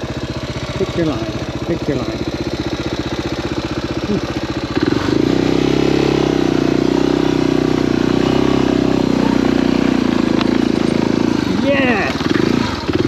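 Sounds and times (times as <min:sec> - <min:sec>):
motorcycle engine revving up: 0:00.0 - 0:13.0.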